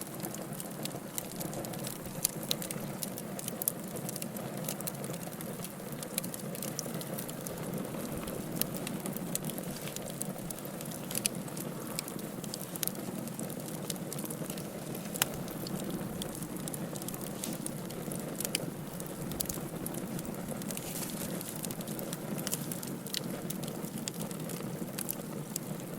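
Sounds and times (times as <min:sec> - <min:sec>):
fire popping and crackling: 0:00.0 - 0:25.9
fire flames rushing: 0:00.1 - 0:25.9.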